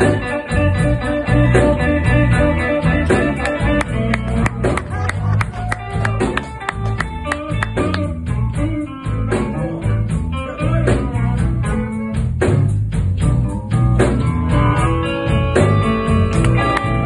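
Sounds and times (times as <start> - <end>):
blues band playing live: 0.0 - 17.0.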